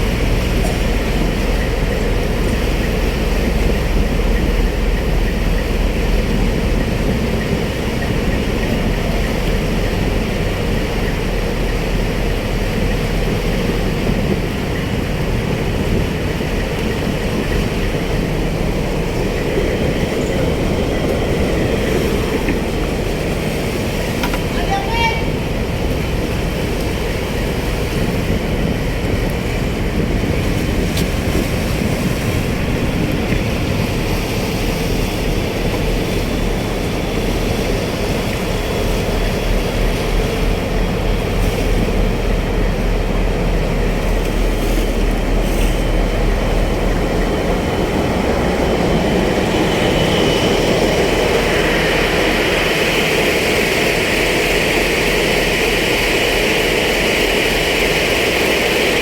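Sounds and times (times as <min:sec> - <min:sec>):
marine diesel engine throbbing: 0:00.0 - 0:59.0.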